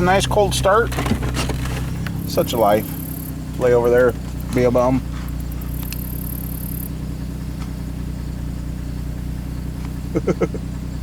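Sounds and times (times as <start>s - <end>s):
car engine idling: 0.0s - 11.0s
short engine revs: 0.0s - 11.0s.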